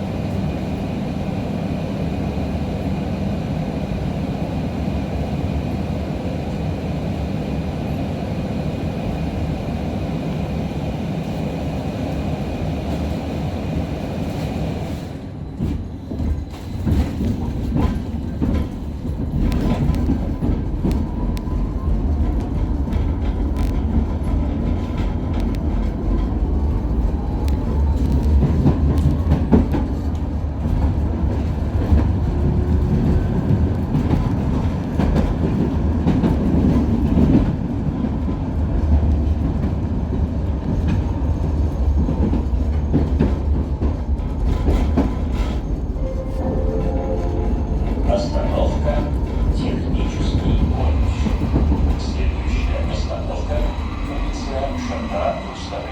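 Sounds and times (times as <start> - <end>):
tram wheels rumbling on rail: 0.0 - 55.9.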